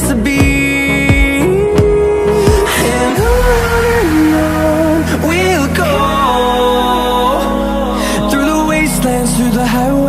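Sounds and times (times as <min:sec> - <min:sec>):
electronic dance-pop music: 0:00.0 - 0:10.0.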